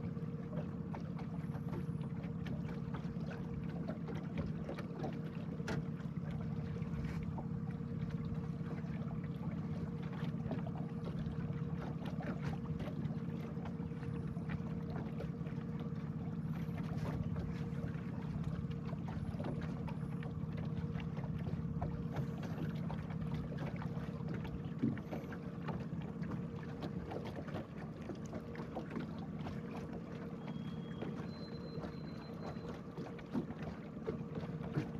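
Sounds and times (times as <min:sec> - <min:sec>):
boat motor humming: 0:00.0 - 0:34.9
water splashing against hull: 0:00.0 - 0:34.9.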